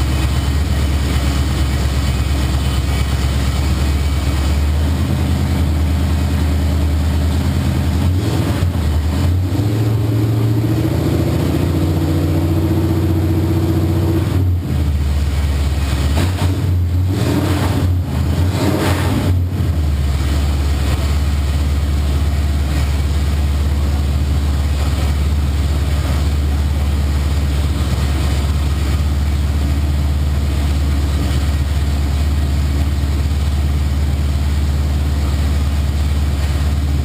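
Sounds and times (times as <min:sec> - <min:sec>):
loud engine idling: 0:00.0 - 0:37.0.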